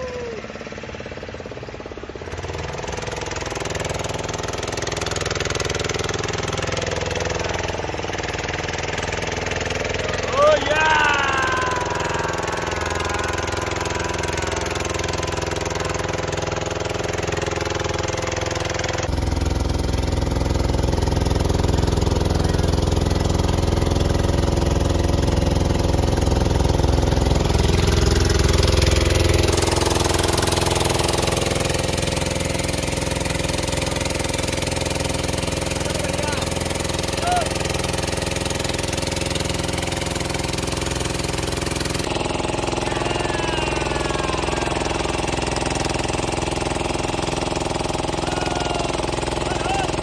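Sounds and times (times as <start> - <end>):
motorboat engine running: 0.0 - 50.0.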